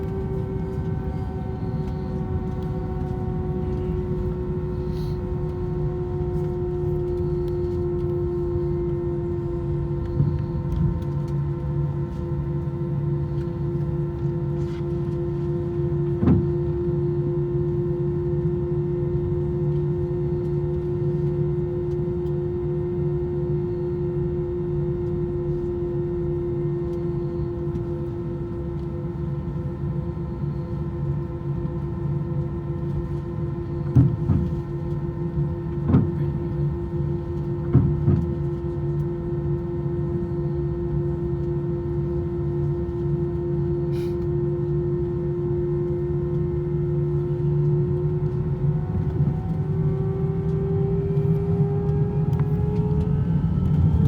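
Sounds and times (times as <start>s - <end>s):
aircraft low rumble: 0.0s - 54.0s.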